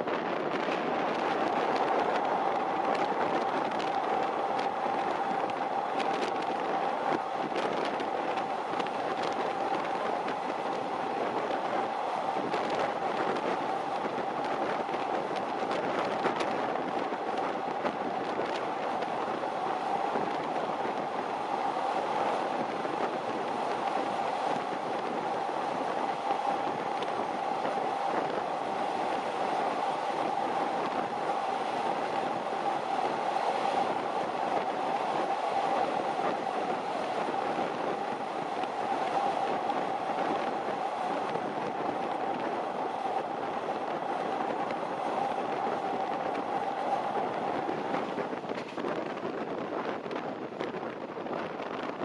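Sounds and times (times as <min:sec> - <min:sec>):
train wheels on rails: 0:00.0 - 0:49.2
steady droning hum: 0:00.8 - 0:48.8.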